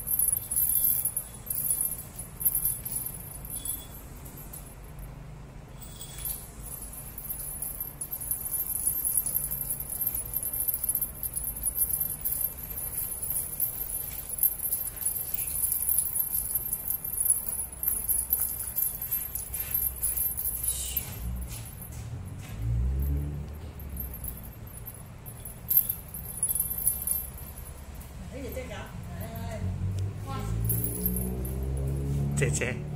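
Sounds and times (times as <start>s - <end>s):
small jingle bell: 0.0s - 32.9s.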